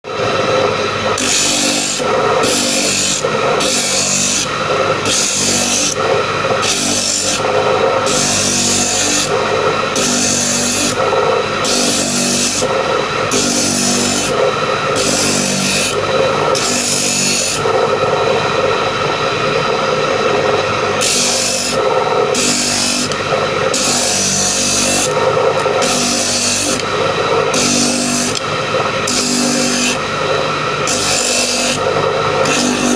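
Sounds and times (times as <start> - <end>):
tool rasping wood: 1.2 - 17.8, 21.0 - 30.1, 30.8 - 32.9.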